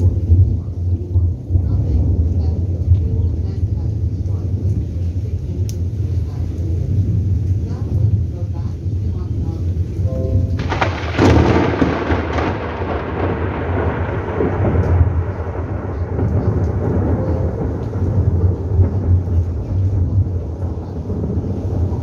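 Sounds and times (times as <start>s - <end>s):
thunder rumbling: 0.0s - 22.0s.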